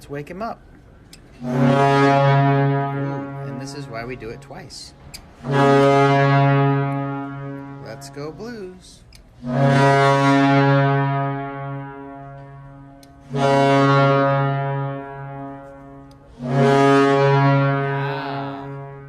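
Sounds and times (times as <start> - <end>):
deep goal horn blasts: 1.3 - 8.7, 9.4 - 19.0.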